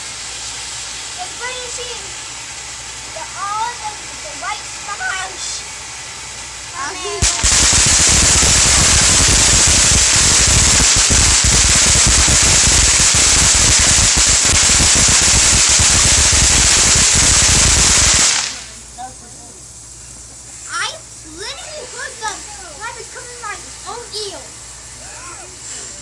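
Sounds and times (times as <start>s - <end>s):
firework crackling: 0.0s - 26.0s.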